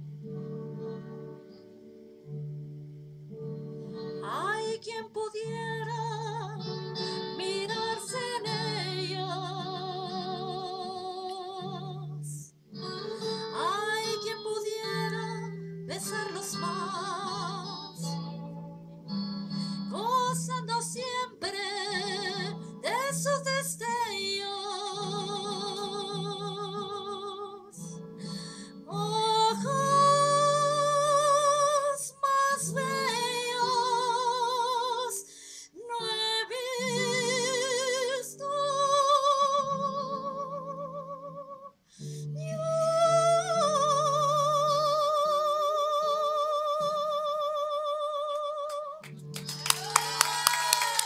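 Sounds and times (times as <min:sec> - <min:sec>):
woman singing with vibrato: 0:04.2 - 0:18.5, 0:19.5 - 0:49.1.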